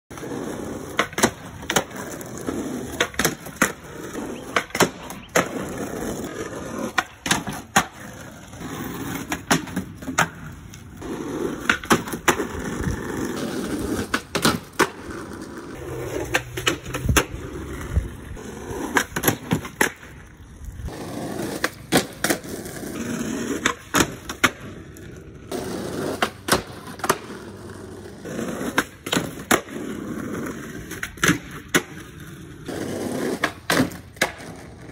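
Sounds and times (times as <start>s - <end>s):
skateboard pops and landings: 0.1s - 20.3s, 20.9s - 34.9s
skateboard wheels rolling on asphalt: 0.1s - 34.9s.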